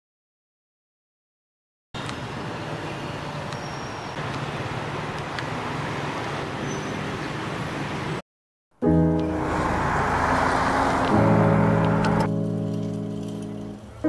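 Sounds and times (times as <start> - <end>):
traffic rumble: 2.0 - 8.2, 8.9 - 14.0.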